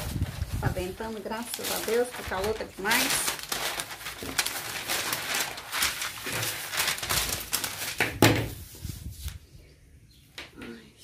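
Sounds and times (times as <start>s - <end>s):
paper rustling and crackling: 0.0s - 9.4s.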